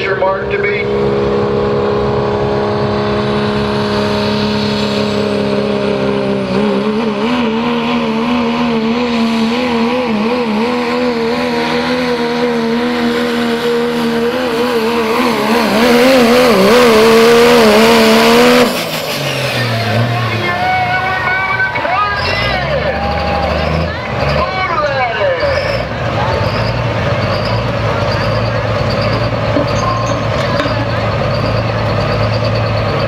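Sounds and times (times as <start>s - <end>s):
diesel truck engine under load: 0.0s - 33.0s.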